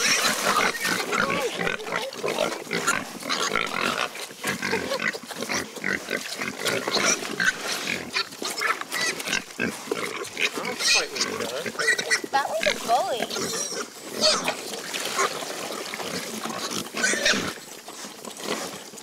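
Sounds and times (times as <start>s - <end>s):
farm animals calling: 0.0s - 18.9s
animals scuffling: 0.0s - 19.0s.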